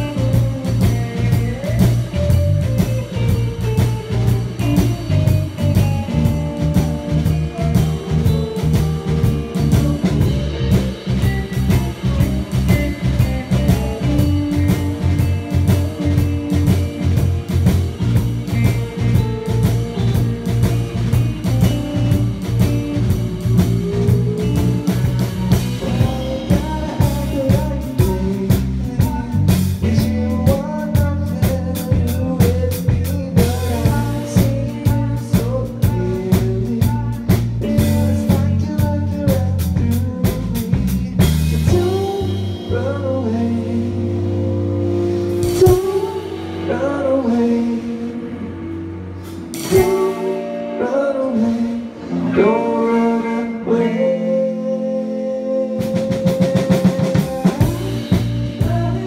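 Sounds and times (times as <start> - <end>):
drums: 0.0 - 59.0
electric guitar: 0.0 - 59.0.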